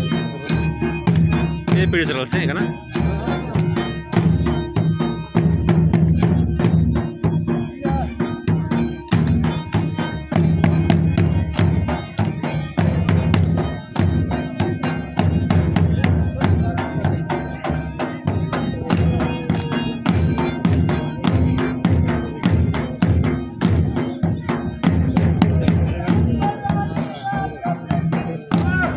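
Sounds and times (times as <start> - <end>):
droning melody: 0.0 - 28.9
drum beating quick rhythm: 0.0 - 28.9.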